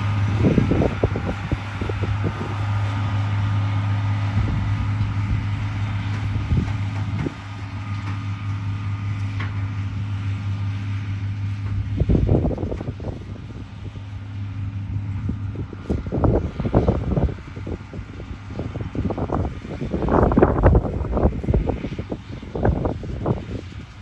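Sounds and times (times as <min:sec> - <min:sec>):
wind buffeting microphone: 0:00.0 - 0:08.8, 0:11.3 - 0:24.0
tractor engine running: 0:00.0 - 0:24.0.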